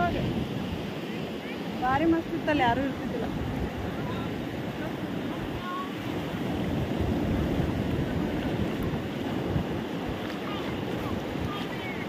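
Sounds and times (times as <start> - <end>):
sea surf washing onto beach: 0.0 - 12.0
wind rumbling on microphone: 0.0 - 12.0.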